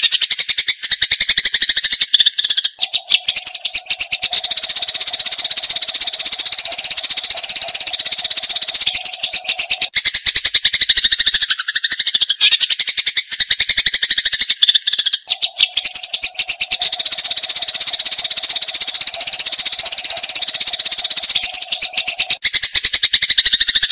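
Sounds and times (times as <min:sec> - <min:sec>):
sparrows chirping rapidly: 0:00.0 - 0:23.9.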